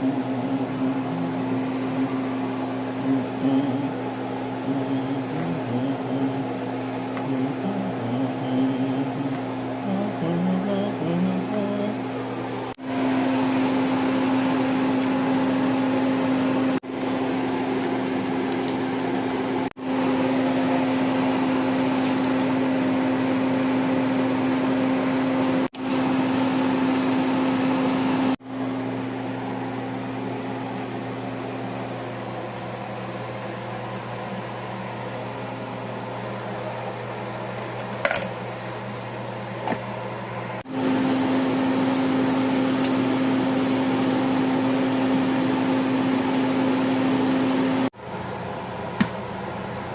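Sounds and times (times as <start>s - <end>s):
appliance motor hum: 0.0s - 49.9s.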